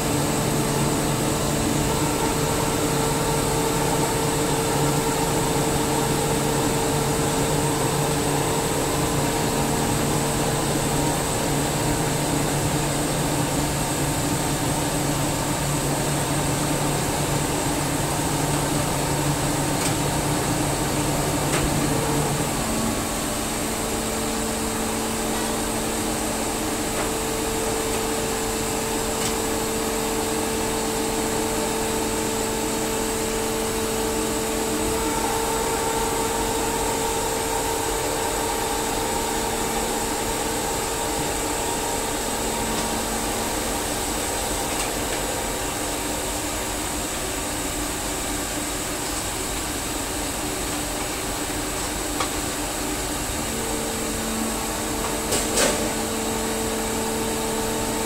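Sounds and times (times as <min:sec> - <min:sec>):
air compressor hum: 0:00.0 - 0:58.0.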